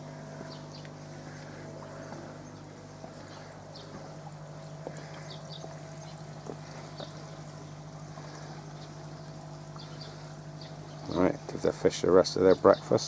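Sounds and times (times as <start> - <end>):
pond water trickling: 0.0 - 13.0
steady low hum: 0.0 - 13.0.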